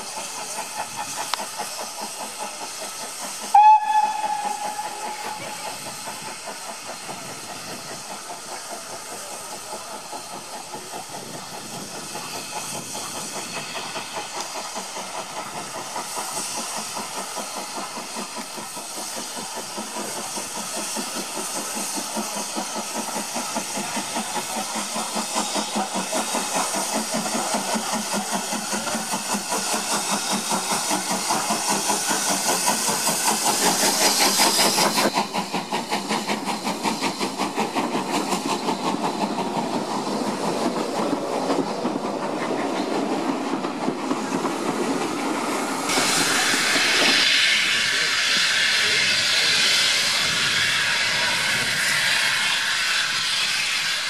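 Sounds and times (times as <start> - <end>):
steam hissing: 0.0 - 54.0
steam locomotive chuffing: 0.0 - 54.0.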